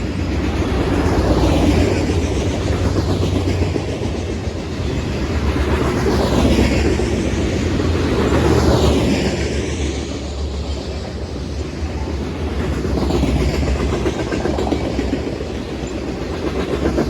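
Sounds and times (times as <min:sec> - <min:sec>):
train wheels clattering on rail: 0:00.0 - 0:17.0.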